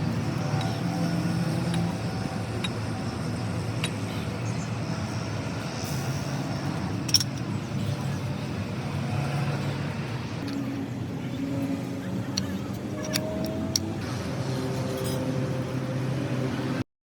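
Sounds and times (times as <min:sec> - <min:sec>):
rumble of motor vehicles: 0:00.0 - 0:16.9.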